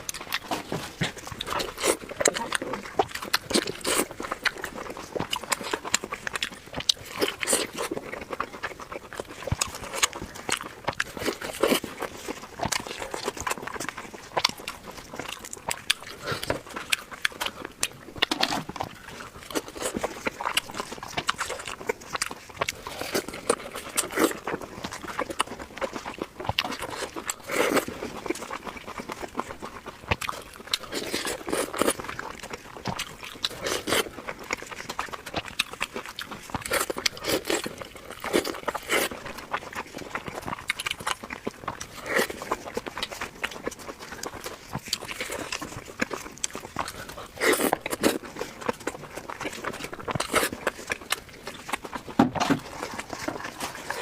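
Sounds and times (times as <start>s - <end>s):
chewing and lip-smacking: 0.0s - 54.0s.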